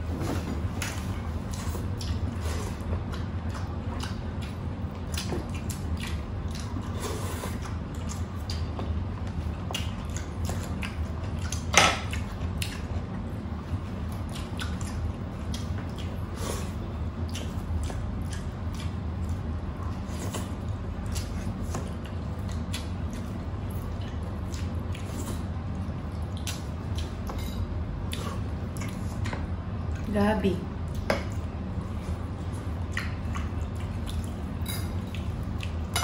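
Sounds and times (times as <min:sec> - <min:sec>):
steady low hum: 0:00.0 - 0:36.0
wet chewing and mouth smacks: 0:00.8 - 0:27.4, 0:28.0 - 0:30.1, 0:30.8 - 0:36.0.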